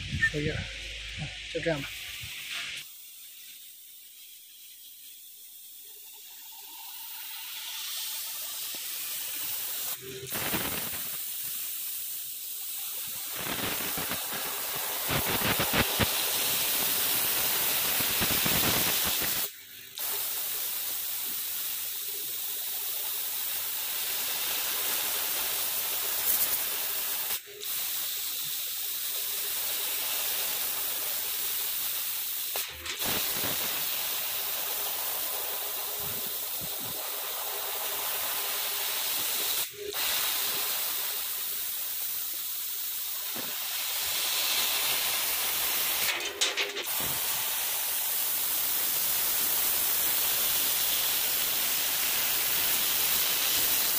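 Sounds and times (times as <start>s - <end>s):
hiss of air blowing from nozzle: 0.0s - 53.9s.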